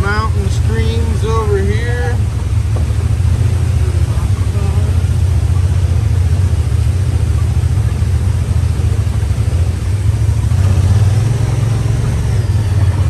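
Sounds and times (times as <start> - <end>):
engine running low drone: 0.0 - 13.0.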